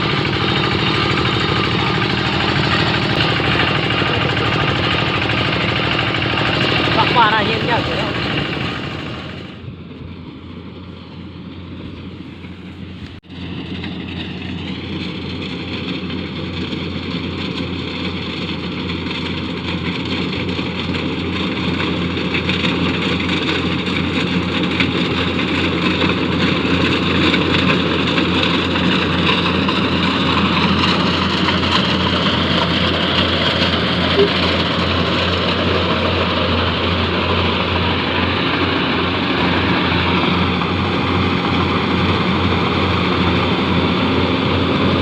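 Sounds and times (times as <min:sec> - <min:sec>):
farm machinery engine running: 0:00.0 - 0:45.0.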